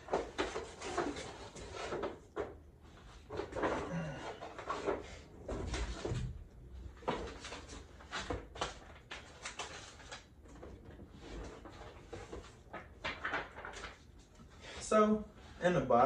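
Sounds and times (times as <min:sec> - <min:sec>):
cardboard rustling and scraping: 0:00.0 - 0:14.1.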